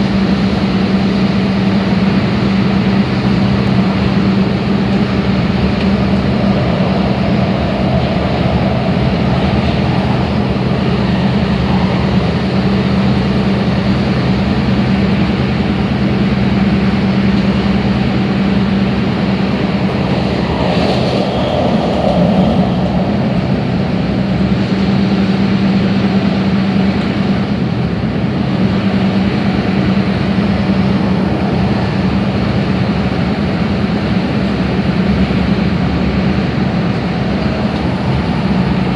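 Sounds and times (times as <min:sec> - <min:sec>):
low train hum: 0:00.0 - 0:38.9
train rolling rumble: 0:00.0 - 0:38.9.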